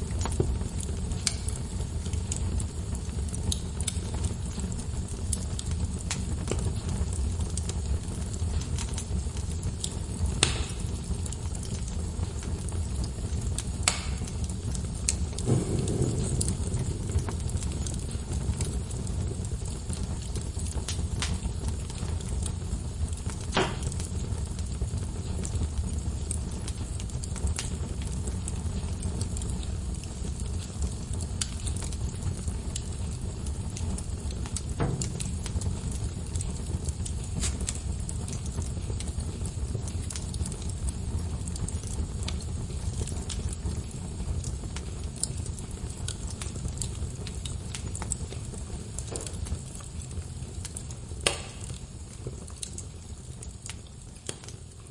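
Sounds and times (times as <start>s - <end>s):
fire popping and crackling: 0.0s - 54.9s
low rumble of flames: 0.0s - 54.9s.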